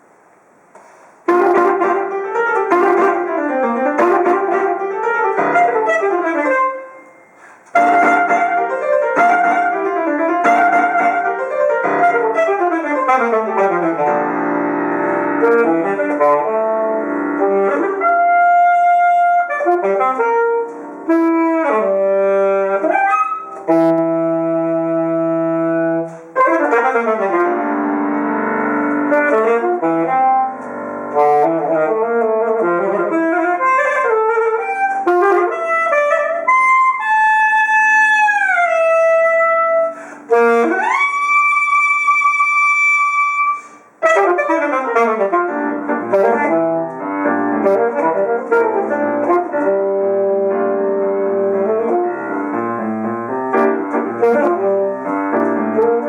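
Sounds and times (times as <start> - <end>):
alto saxophone: 1.2 - 56.0.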